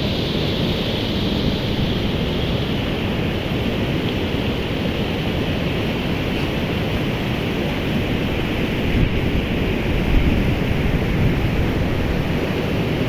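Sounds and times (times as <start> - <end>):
river rushing in flood: 0.0 - 13.0.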